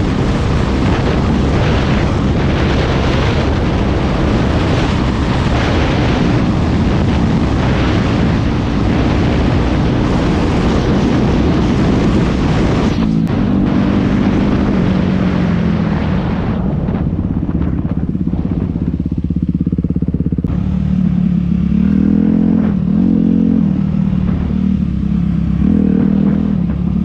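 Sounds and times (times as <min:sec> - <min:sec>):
dirt bike engine revving: 0:00.0 - 0:16.4, 0:19.6 - 0:27.0.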